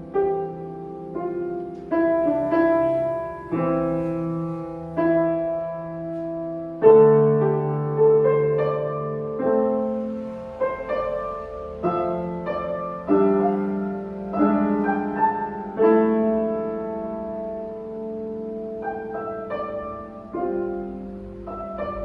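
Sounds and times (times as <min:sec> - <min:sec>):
solo piano chords: 0:00.0 - 0:22.0.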